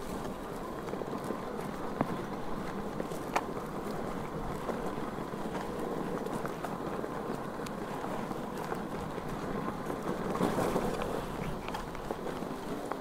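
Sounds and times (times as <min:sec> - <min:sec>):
wheel rolling on rocky trail: 0:00.0 - 0:13.0.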